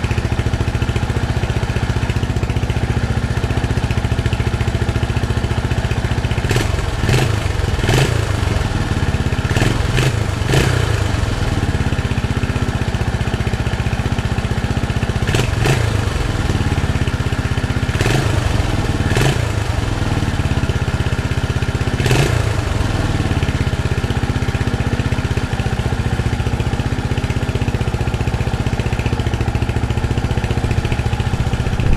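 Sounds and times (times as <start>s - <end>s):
motorcycle engine running steadily: 0.0s - 31.9s.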